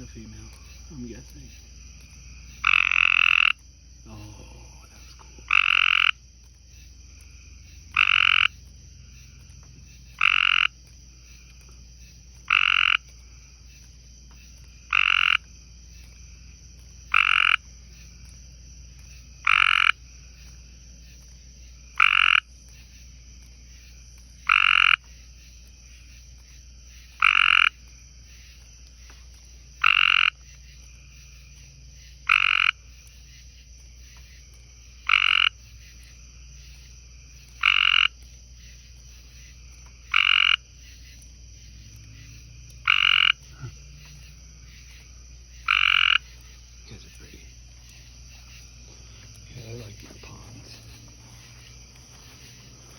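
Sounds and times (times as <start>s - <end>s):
tree frog calling: 0.0s - 52.9s.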